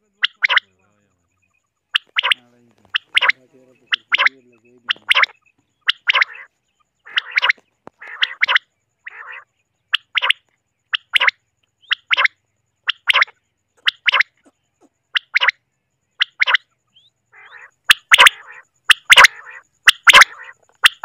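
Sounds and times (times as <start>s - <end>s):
quail calling: 0.0s - 15.6s, 16.2s - 21.0s.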